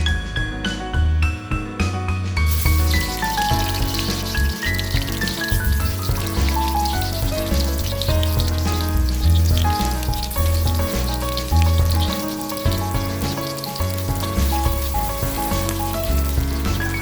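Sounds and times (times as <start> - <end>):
background music with bass line: 0.0 - 17.0
food sizzling in a pan: 2.5 - 17.0.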